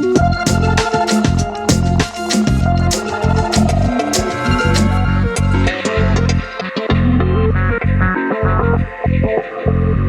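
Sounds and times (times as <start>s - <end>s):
repeating bass line: 0.2s - 10.0s.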